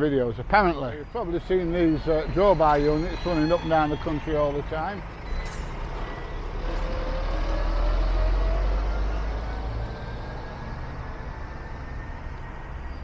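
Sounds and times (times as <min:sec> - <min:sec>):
lorry driving past: 0:01.0 - 0:13.0.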